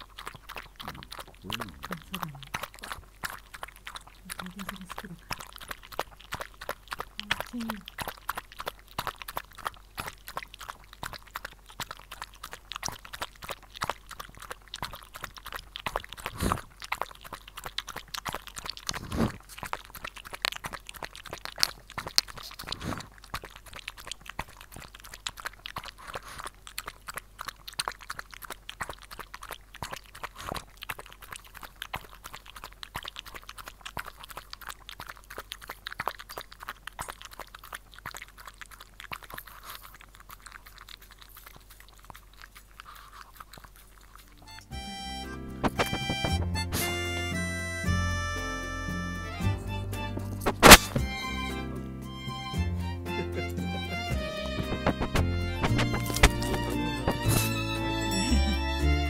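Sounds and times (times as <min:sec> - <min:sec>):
dog lapping and slurping: 0:00.0 - 0:59.0.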